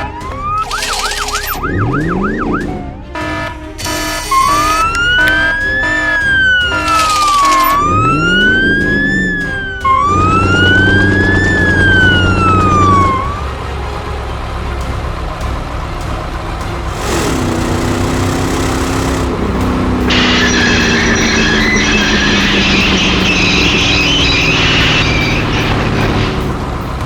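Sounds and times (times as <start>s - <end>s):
emergency vehicle siren wailing: 0.0s - 27.0s
vehicle engine rumbling: 0.0s - 27.0s.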